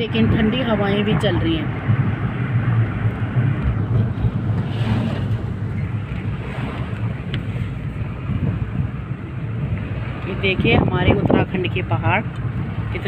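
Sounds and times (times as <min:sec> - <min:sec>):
car engine hum: 0:00.0 - 0:13.0
road noise: 0:00.0 - 0:13.0
wind buffeting microphone: 0:00.0 - 0:13.0.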